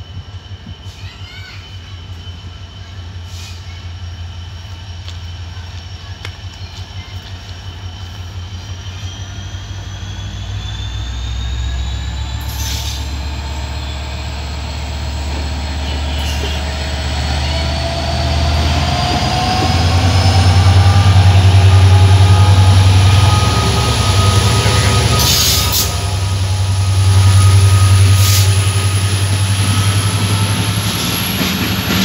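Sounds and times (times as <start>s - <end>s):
high wheel squeal: 0.0s - 32.0s
locomotive engine drone: 0.0s - 32.0s.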